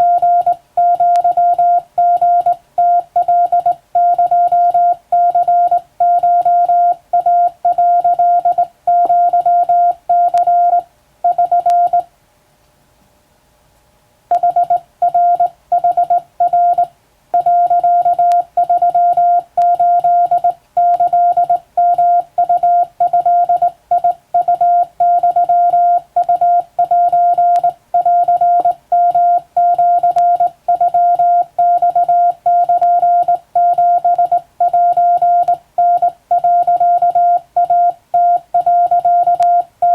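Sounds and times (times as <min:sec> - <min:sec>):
morse code beeps: 0:00.0 - 0:12.1, 0:14.3 - 0:39.9.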